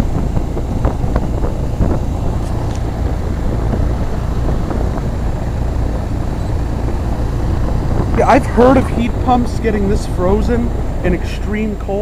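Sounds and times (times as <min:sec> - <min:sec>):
heat pump compressor and fan hum: 0:00.0 - 0:12.0.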